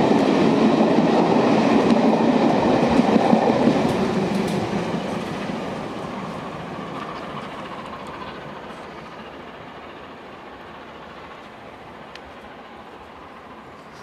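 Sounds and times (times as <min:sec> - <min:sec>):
train rumble and wheel noise: 0:00.0 - 0:14.0.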